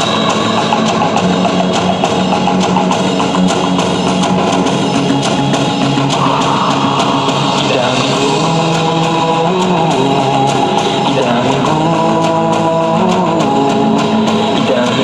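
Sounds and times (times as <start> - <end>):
rock music through car speakers: 0.0 - 15.0.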